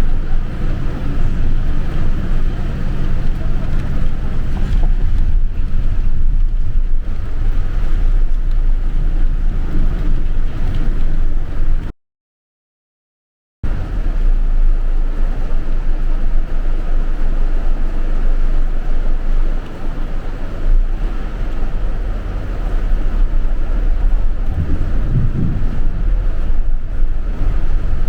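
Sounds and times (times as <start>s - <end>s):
bus engine and road rumble: 0.0s - 11.9s, 13.6s - 28.0s.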